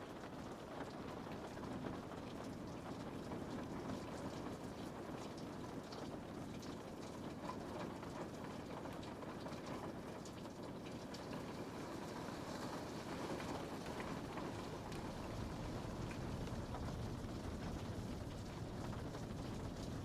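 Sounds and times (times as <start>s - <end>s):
rain on a window: 0.0s - 20.0s.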